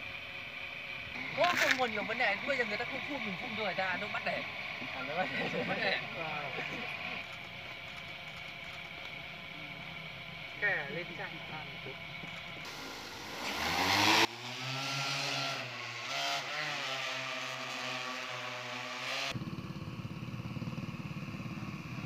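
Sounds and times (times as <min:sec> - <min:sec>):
drone rotors humming: 0:00.0 - 0:22.0.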